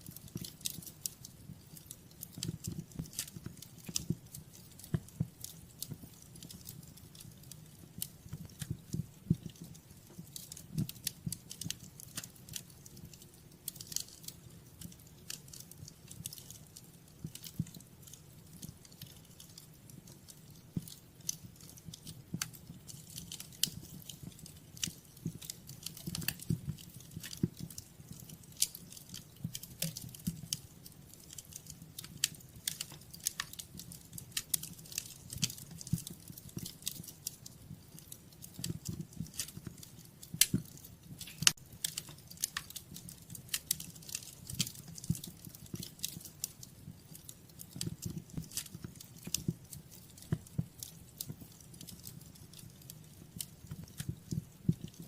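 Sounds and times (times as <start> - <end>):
fire crackling in fireplace: 0.0 - 55.0
low rumble of flame: 0.0 - 55.0.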